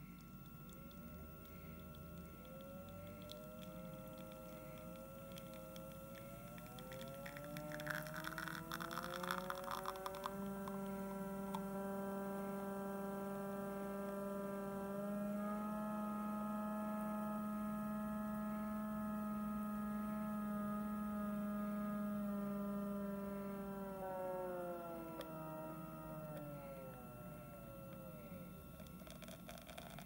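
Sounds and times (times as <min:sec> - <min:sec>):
espresso machine pump humming: 0:00.0 - 0:30.0.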